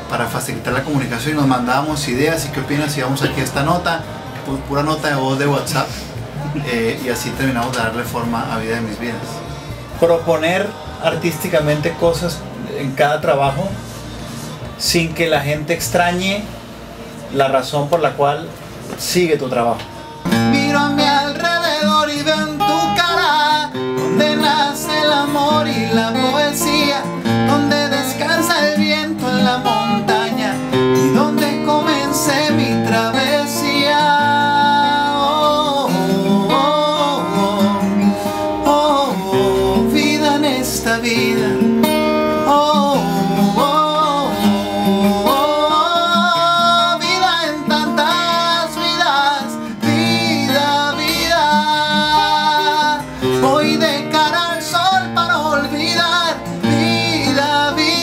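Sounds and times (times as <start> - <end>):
man singing: 0.0 - 16.3, 19.0 - 58.0
strummed acoustic guitar: 0.0 - 58.0.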